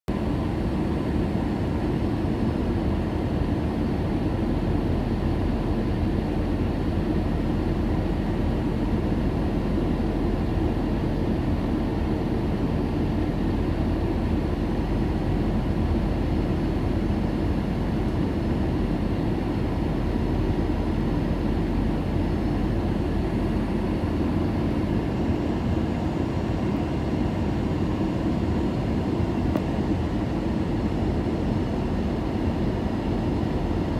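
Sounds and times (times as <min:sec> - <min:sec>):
airliner cabin rumble: 0:00.1 - 0:33.9.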